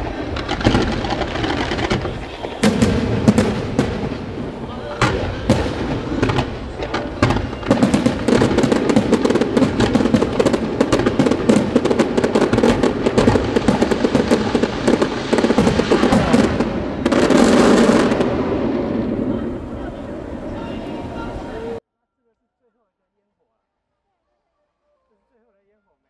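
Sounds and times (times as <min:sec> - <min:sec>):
fireworks bangs and crackling: 0:00.0 - 0:21.8.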